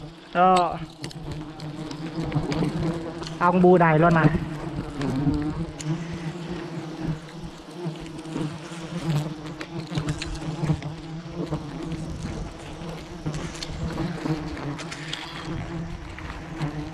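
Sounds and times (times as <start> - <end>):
bees buzzing: 0.0 - 16.9.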